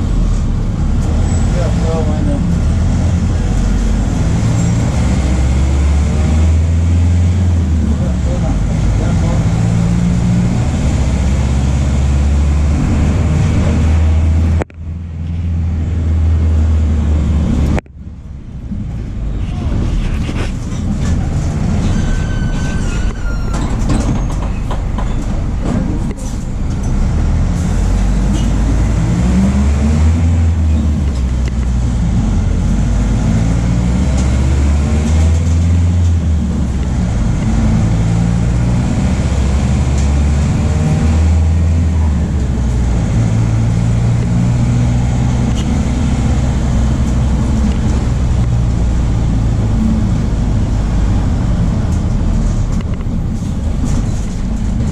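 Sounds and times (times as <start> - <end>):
diesel bus engine under load: 0.0 - 54.9.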